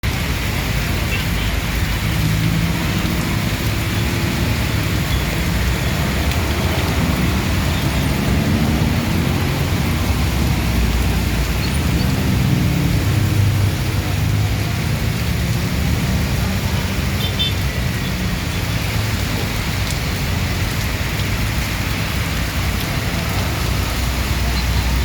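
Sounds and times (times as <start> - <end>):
steady rain falling: 0.0 - 25.0
vehicles passing on road: 0.0 - 25.0.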